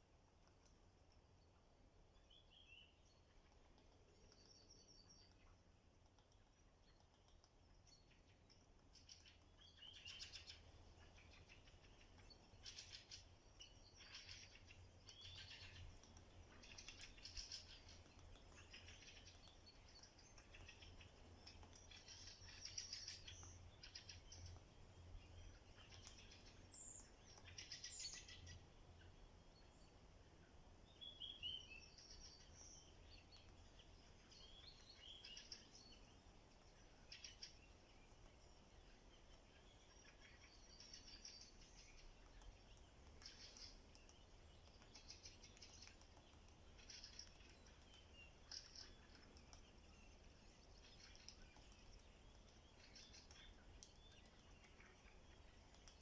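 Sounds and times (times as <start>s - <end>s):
faint low hum: 0.0s - 56.0s
songbirds trilling and chirping: 0.0s - 56.0s.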